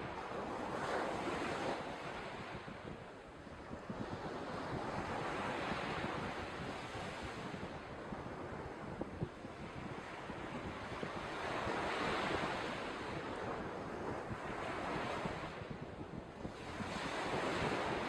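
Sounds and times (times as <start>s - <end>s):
wind: 0.0s - 18.0s.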